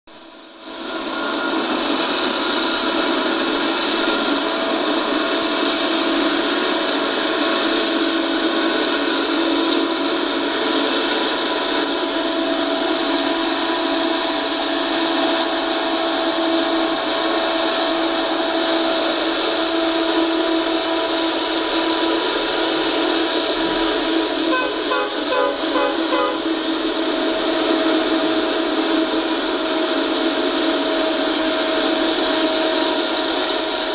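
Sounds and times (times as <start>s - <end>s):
diesel locomotives running: 0.1s - 33.9s.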